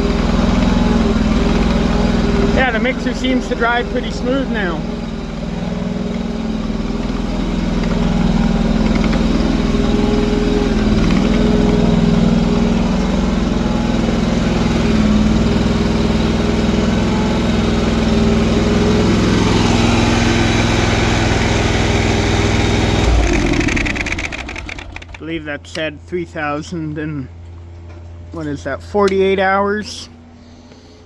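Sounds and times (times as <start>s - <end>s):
engine running steadily: 0.0s - 29.3s.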